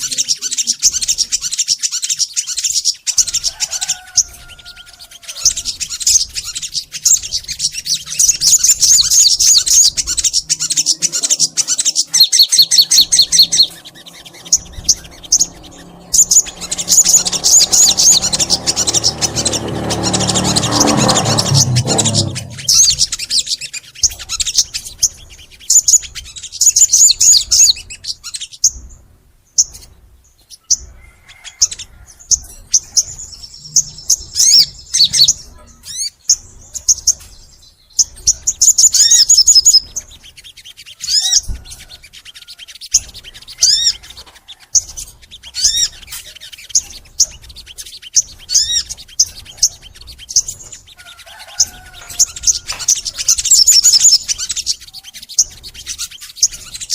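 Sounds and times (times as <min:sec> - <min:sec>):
bird singing: 0:00.0 - 0:56.9.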